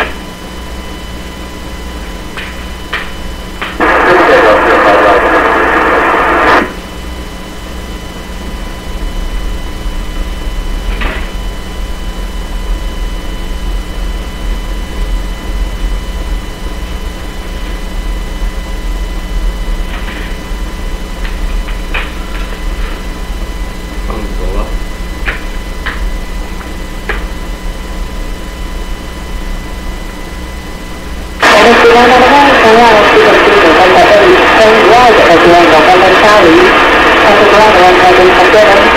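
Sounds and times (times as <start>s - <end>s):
loud burst of radio noise: 0.0s - 38.9s
radio hiss and hum: 0.0s - 38.9s.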